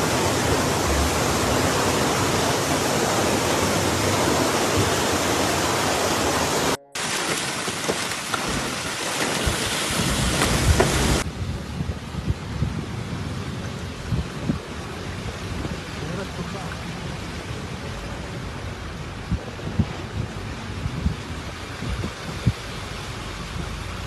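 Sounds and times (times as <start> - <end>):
fast-flowing floodwater: 0.0 - 11.3, 13.5 - 24.0
heavy rain: 0.0 - 24.0.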